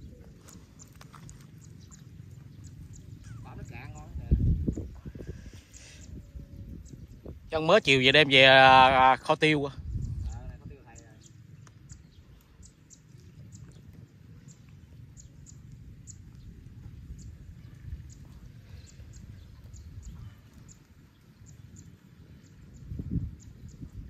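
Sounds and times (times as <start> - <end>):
wind on microphone: 1.6 - 11.2, 11.9 - 24.0.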